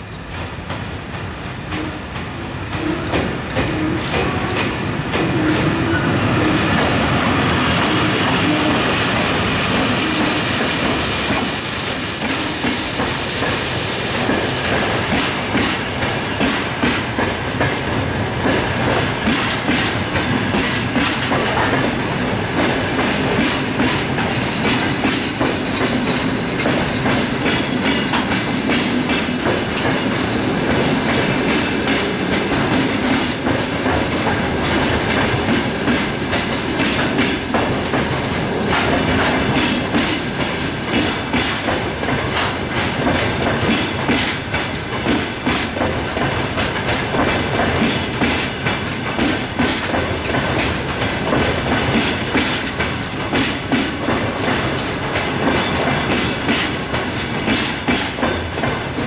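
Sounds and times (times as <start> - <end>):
electric locomotive passing: 0.0 - 59.0
train wheels clicking over rail joints: 0.1 - 59.0.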